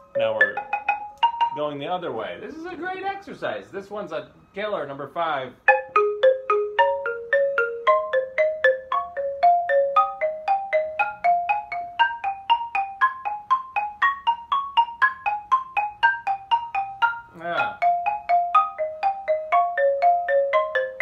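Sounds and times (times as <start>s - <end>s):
xylophone notes: 0.0s - 2.6s, 5.7s - 21.0s.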